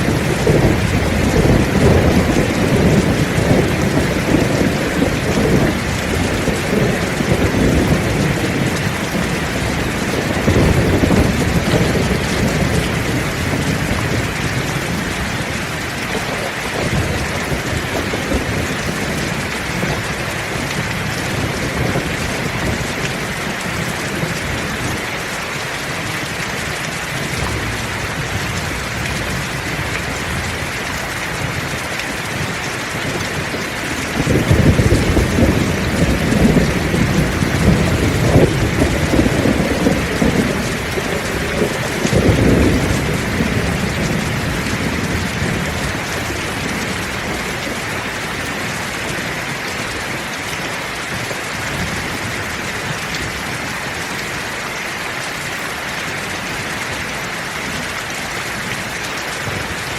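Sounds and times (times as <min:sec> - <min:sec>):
low rumble of thunder: 0:00.0 - 0:25.0, 0:27.1 - 0:50.1
heavy rain falling: 0:00.0 - 0:59.9.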